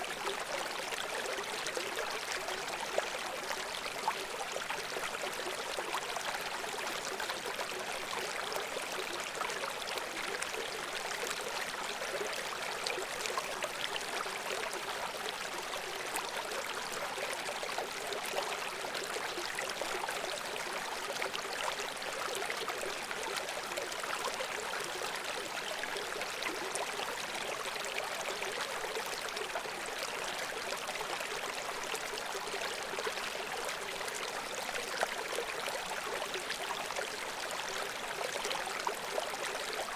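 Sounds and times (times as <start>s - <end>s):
water flowing over stones: 0.0s - 39.9s.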